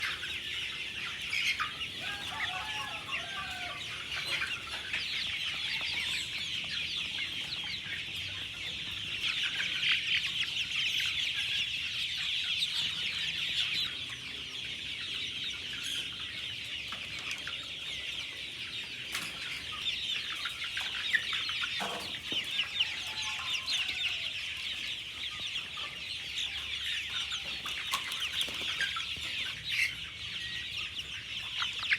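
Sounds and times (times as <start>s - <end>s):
chicken clucking: 0.0s - 31.9s
chicks peeping: 0.0s - 31.9s.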